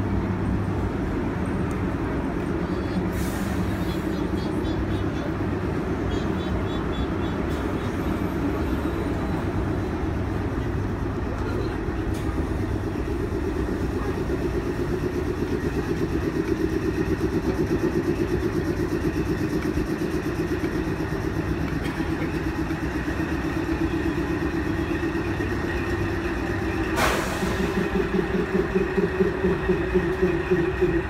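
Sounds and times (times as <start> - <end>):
train engine idling: 0.0 - 31.0.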